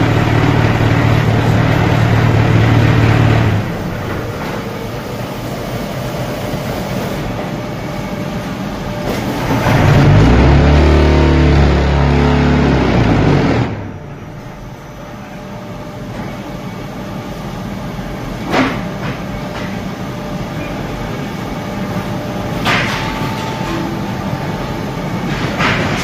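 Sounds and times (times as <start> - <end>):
hydraulic hum: 0.0 - 26.0
vibration table heavy hum: 0.0 - 26.0.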